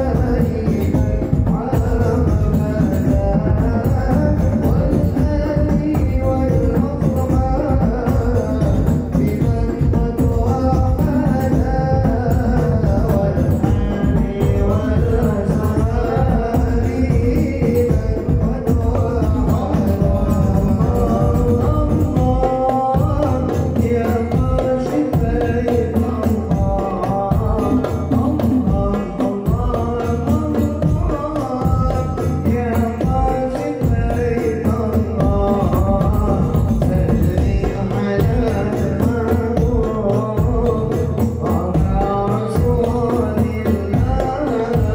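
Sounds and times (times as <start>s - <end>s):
bass drums steady beat: 0.0s - 44.9s
frame drums with jingles: 0.0s - 44.9s
voices singing: 0.0s - 44.9s.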